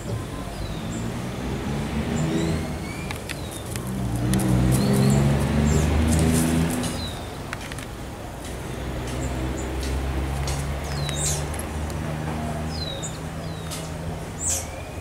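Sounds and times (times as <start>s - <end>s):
vehicle engine passing by: 0.0s - 7.5s, 8.5s - 14.6s
small birds chirping: 0.0s - 7.7s, 8.4s - 15.0s.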